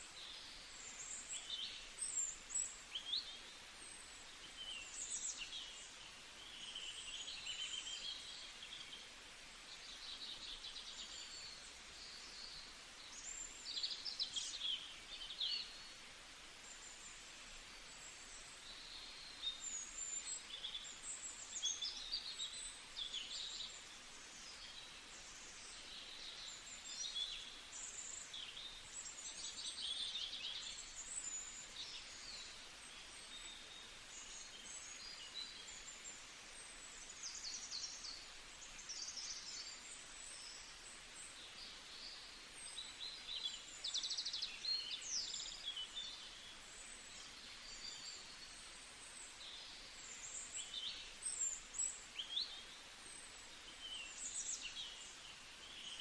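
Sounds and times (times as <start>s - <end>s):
faint steady hiss: 0.0s - 56.0s
small birds singing: 0.0s - 56.0s.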